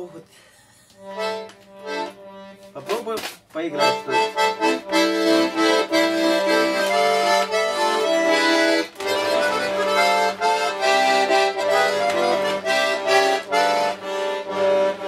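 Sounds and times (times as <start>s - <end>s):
button accordion playing chords: 0.9s - 15.0s.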